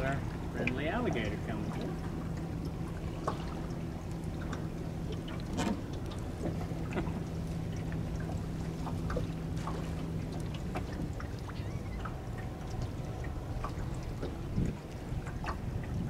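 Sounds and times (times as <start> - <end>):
steady low hum: 0.0 - 16.0
water lapping against boat hull: 0.0 - 16.0.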